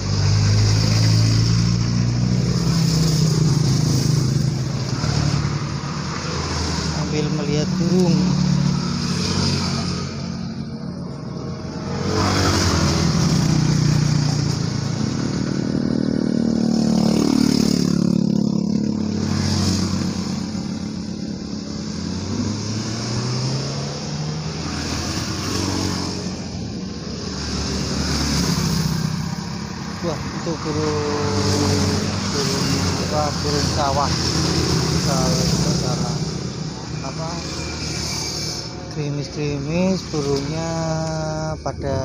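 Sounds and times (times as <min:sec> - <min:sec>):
motor vehicles passing by: 0:00.0 - 0:42.0.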